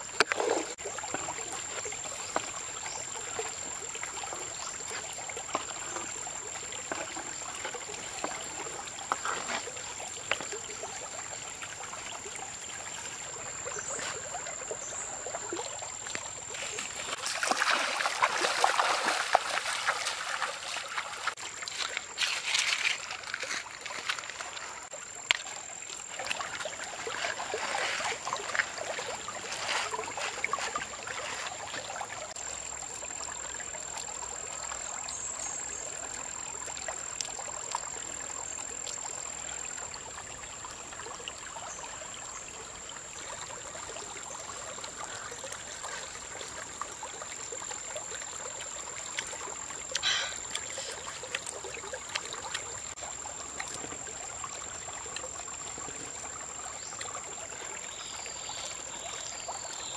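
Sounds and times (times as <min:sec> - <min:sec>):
stream trickling over pebbles: 0:00.0 - 0:59.9.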